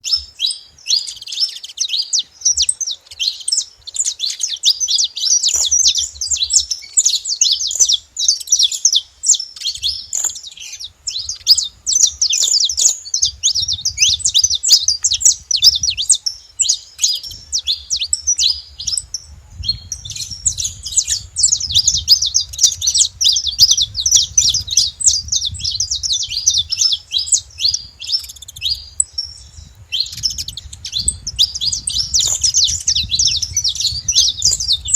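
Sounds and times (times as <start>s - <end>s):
finches chirping and singing: 0.0s - 34.9s.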